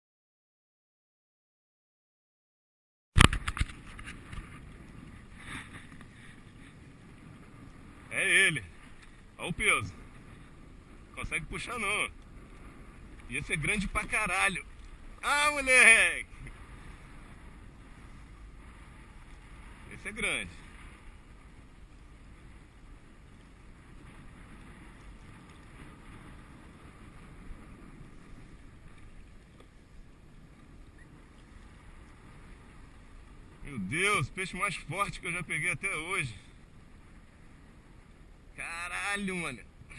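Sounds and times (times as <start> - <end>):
water washing against kayak hull: 3.2 - 39.9
wind on microphone: 3.2 - 39.9.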